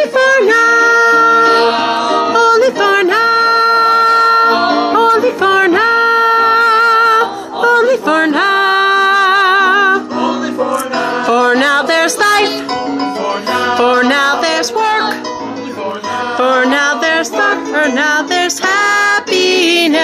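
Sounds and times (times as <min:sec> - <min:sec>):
cast singing show tune: 0:00.0 - 0:20.0.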